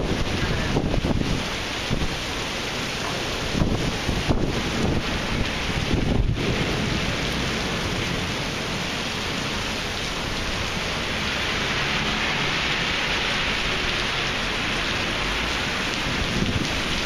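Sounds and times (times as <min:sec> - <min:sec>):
car driving through standing water: 0:00.0 - 0:17.0
heavy rain on pavement: 0:00.0 - 0:17.0.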